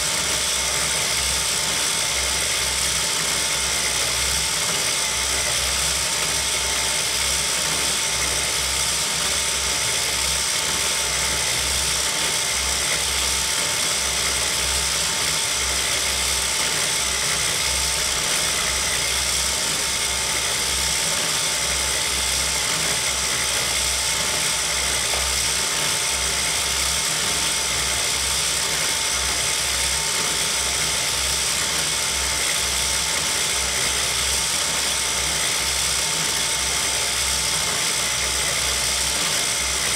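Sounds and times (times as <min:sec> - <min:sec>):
knitting machine running: 0:00.0 - 0:39.9.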